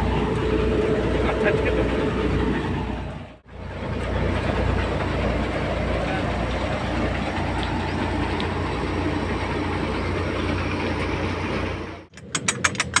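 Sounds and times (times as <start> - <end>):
tractor engine low hum: 0.0 - 13.0.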